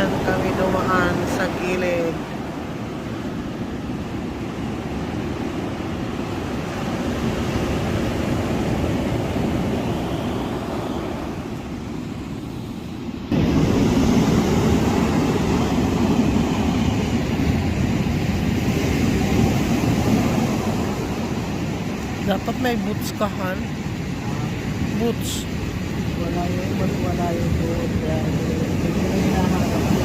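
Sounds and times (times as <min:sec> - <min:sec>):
surf rumbling: 0:00.0 - 0:30.0
wind: 0:00.0 - 0:30.0.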